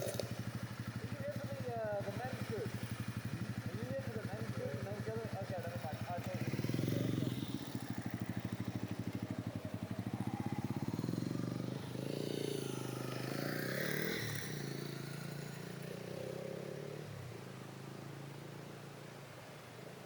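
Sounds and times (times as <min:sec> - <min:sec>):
small petrol engine running: 0:00.0 - 0:16.4.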